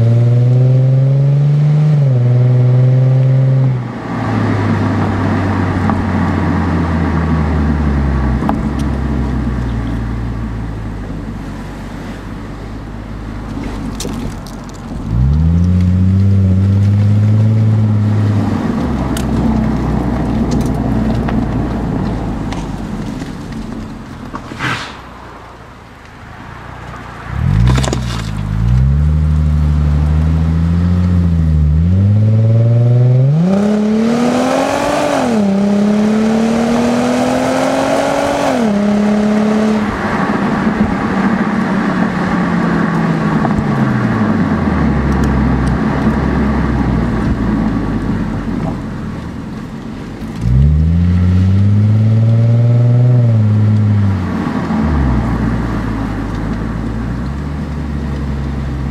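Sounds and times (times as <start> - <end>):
car exhaust accelerating hard: 0.0 - 58.9
road and wind noise: 0.0 - 58.9.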